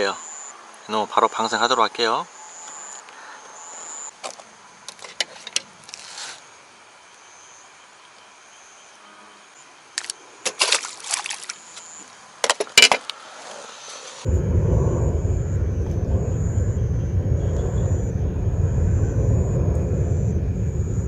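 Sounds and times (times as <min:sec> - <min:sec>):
night insects trilling: 0:00.0 - 0:05.0, 0:05.9 - 0:10.5, 0:13.1 - 0:21.0.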